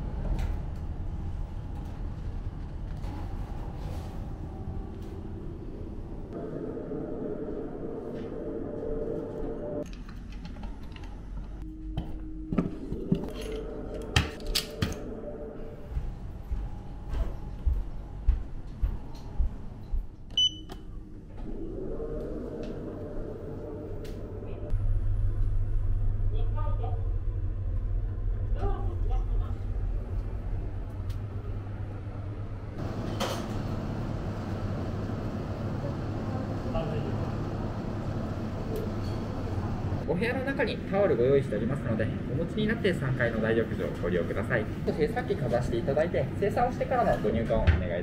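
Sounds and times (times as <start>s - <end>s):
low steady hum: 0.0s - 47.8s.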